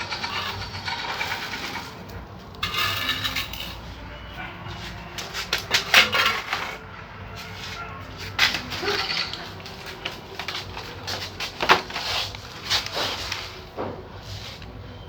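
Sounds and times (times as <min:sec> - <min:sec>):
hard toys clattering: 0:00.0 - 0:04.0, 0:04.8 - 0:07.0, 0:07.6 - 0:14.0.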